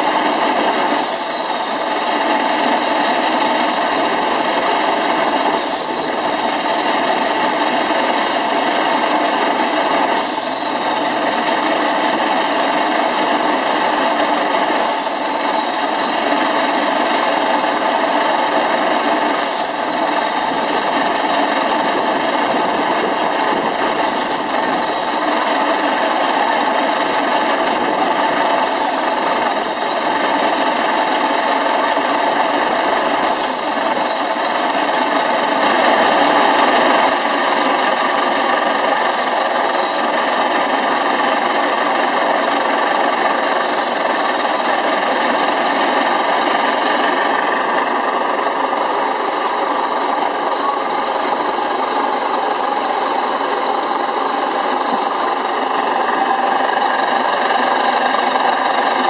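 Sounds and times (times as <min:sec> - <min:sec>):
steam tractor mechanical clatter: 0:00.0 - 0:59.0.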